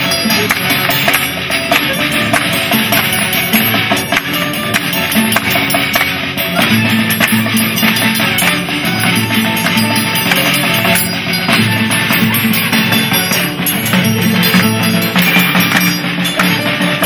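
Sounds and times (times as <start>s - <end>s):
music with guitar and drums: 0.0s - 17.0s.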